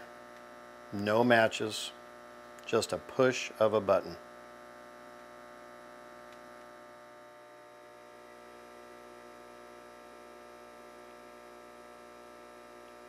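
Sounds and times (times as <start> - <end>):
faint electric air pump hum: 0.0 - 13.0.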